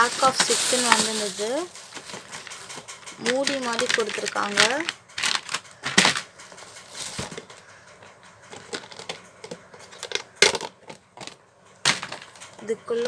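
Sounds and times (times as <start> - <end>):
plastic containers clicking and knocking: 0.0 - 12.8.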